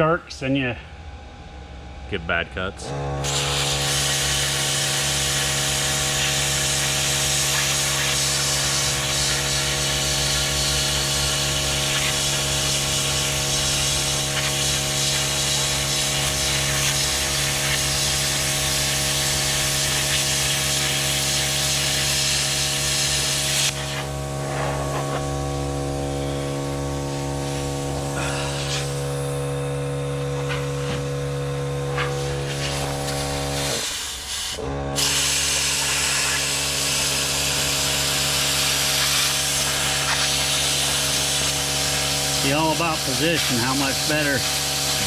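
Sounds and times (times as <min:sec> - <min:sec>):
electrical machine hum: 0:00.0 - 0:45.0
plasma cutter hiss: 0:03.2 - 0:45.0.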